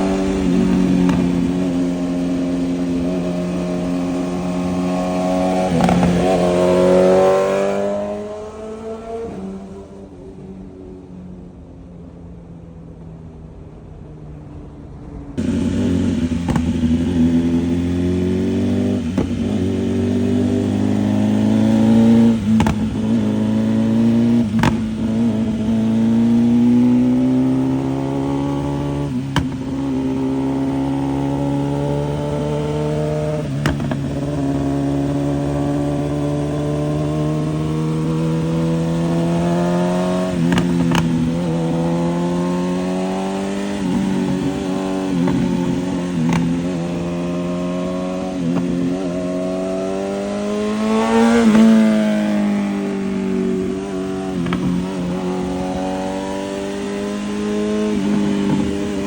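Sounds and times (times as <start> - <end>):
motorcycle engine revving through gears: 0.0 - 10.8, 15.4 - 59.0.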